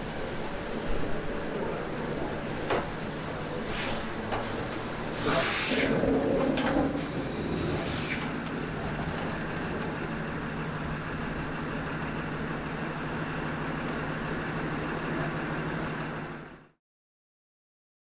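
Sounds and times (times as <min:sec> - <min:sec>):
trains humming at platform: 0:00.0 - 0:16.8.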